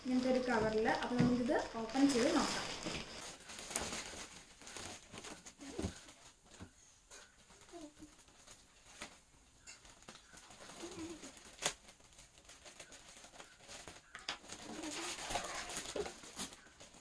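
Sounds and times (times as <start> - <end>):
plastic bag rustling: 0.0 - 17.0.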